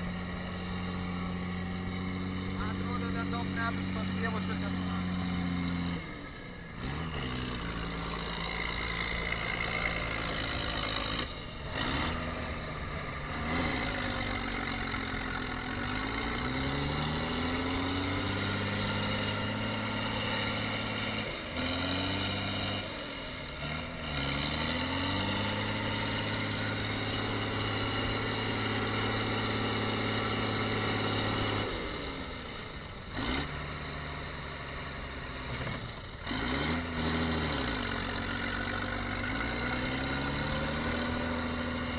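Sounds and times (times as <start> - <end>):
tractor engine revving: 0.0 - 41.9.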